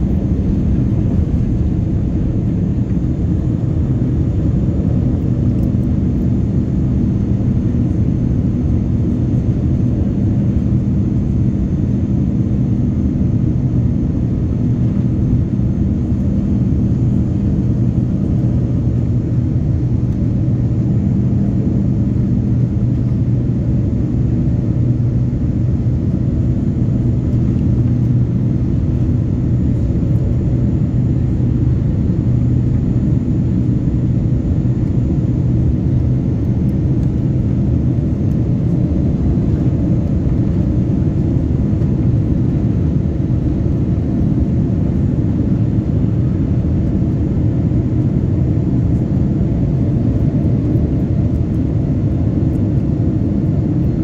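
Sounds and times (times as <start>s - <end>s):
low rumble of jet engines: 0.0s - 54.0s
steady low hums: 0.0s - 54.0s.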